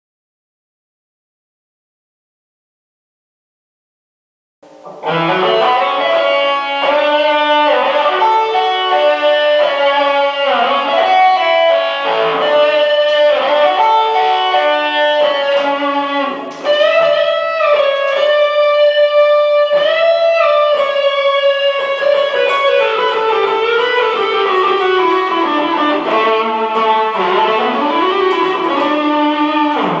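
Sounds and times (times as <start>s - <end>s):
electric guitar melody: 4.7s - 30.0s.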